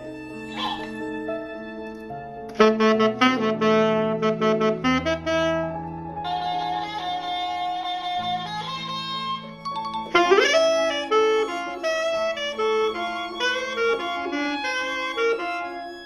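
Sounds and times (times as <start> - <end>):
saxophone melody: 2.5 - 16.0.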